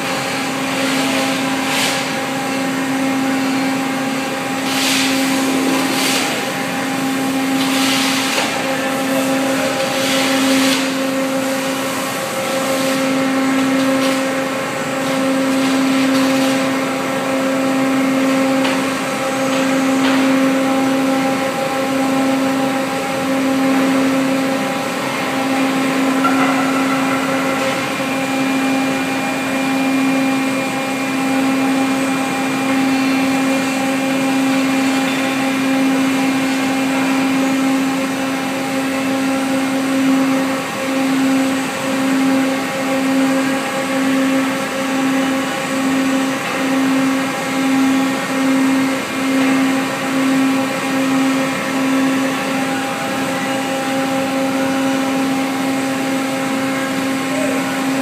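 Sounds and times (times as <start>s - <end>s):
factory machine humming drone: 0.0s - 58.0s.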